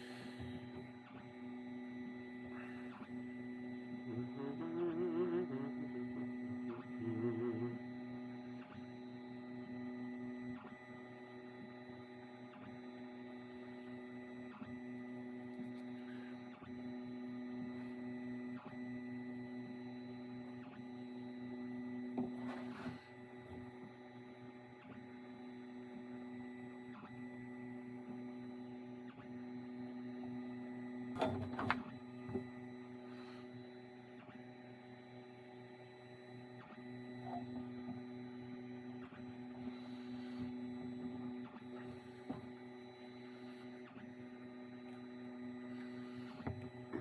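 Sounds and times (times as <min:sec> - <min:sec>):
electrical hum: 0:00.0 - 0:47.0.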